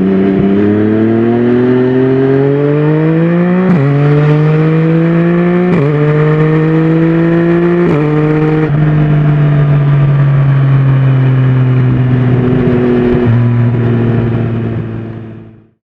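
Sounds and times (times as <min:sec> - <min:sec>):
motorcycle engine accelerating: 0:00.0 - 0:15.8.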